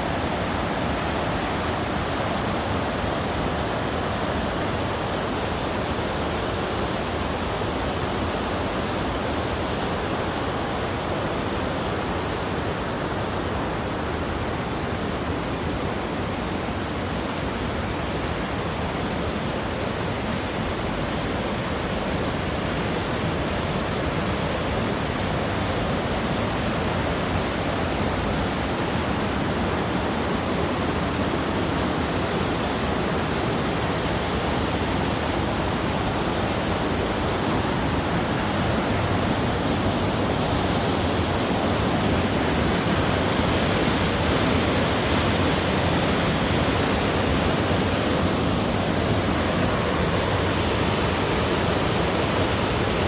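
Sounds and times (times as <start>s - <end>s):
stream rushing: 0.0s - 53.0s.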